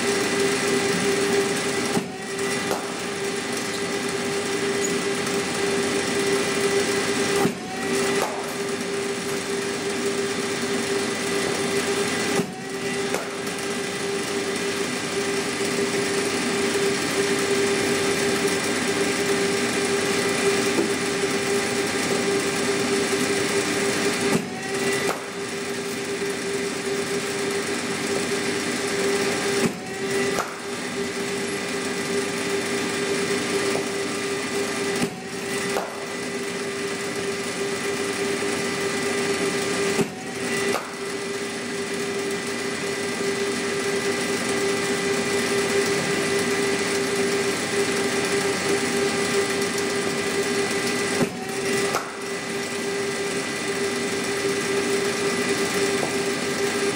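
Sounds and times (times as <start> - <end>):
bowling machine motor hum: 0.0 - 56.9.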